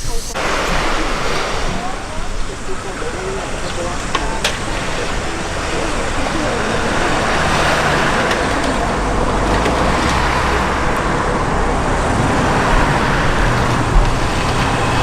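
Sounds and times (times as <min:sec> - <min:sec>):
low engine hum: 0:00.0 - 0:15.0
road traffic passing: 0:00.0 - 0:15.0.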